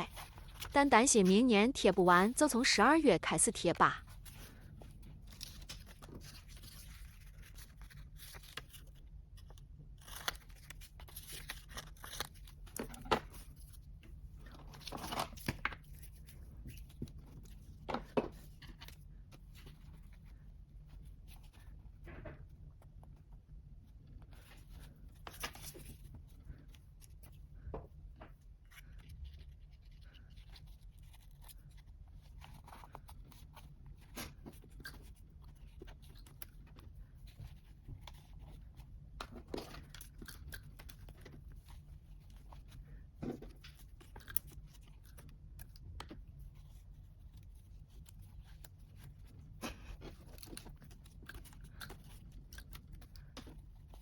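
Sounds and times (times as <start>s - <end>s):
paper rustling and crinkling: 0.0s - 1.2s, 4.0s - 23.0s, 24.0s - 27.7s, 28.3s - 54.0s.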